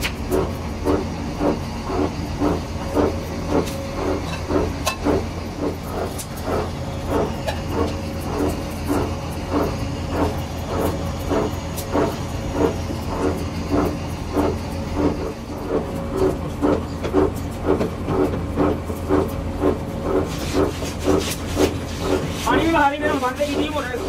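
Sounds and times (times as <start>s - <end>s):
mixing mill pulsing hum: 0.0s - 24.0s.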